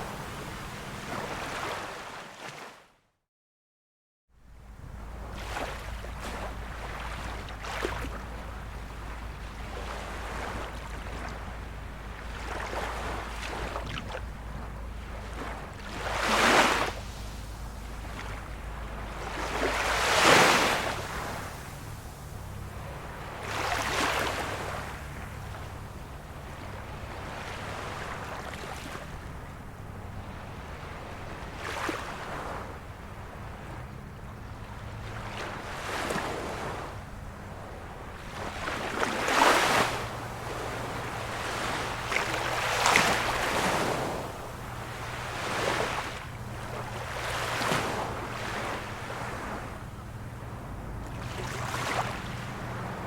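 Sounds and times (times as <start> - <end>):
steady low rumble: 0.0 - 1.4, 4.4 - 39.3, 39.9 - 53.0
small waves lapping: 0.0 - 2.9, 4.5 - 53.0.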